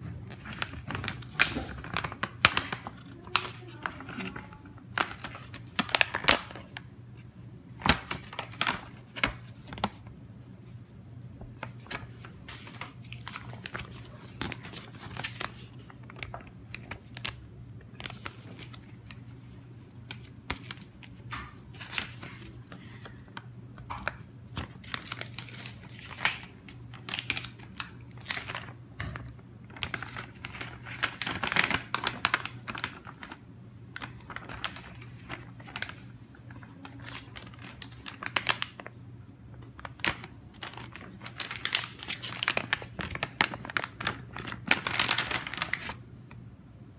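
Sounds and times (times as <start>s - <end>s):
plastic pouches crinkling: 0.3s - 10.1s, 11.5s - 33.4s, 34.0s - 39.0s, 39.6s - 46.0s.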